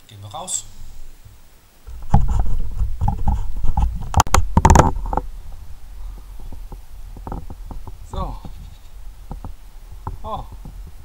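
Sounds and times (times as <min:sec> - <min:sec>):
camera handling knocks and rustles: 0:01.9 - 0:11.0
wind rumble on microphone: 0:01.9 - 0:11.0.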